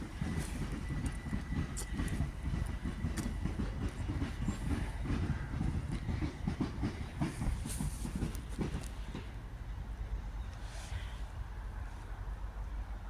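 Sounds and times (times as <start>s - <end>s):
train wheels rumbling and clicking: 0.0s - 10.7s.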